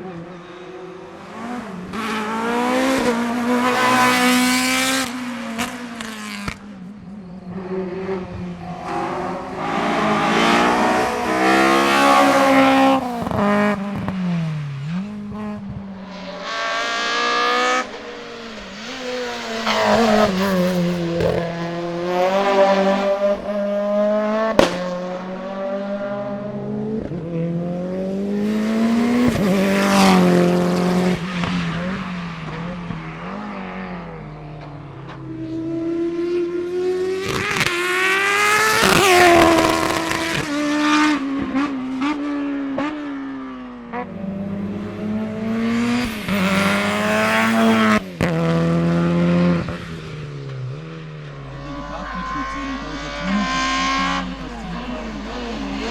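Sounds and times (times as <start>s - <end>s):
race car engine accelerating: 0.0s - 55.9s.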